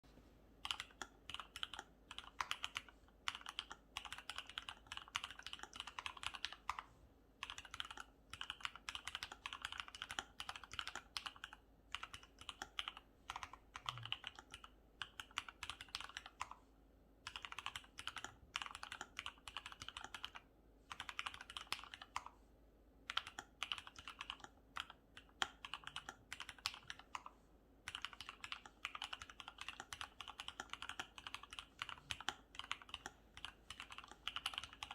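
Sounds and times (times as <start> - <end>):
mechanical keyboard typing: 0.6 - 6.8, 7.4 - 16.6, 17.3 - 22.3, 23.1 - 27.3, 27.9 - 34.9.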